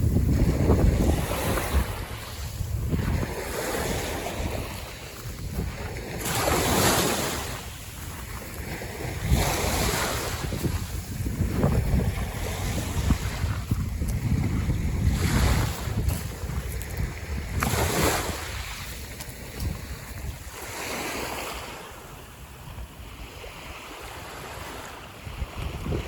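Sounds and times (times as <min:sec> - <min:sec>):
small waves washing onto beach: 0:00.0 - 0:26.0
wind buffeting microphone: 0:00.0 - 0:26.0.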